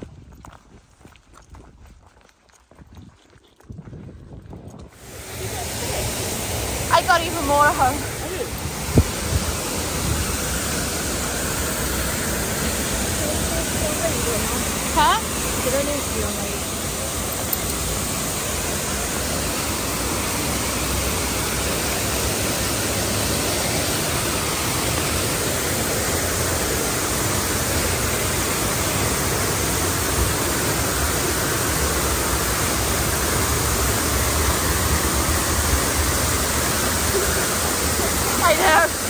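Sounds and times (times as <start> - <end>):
waterfall rushing: 5.0 - 39.0.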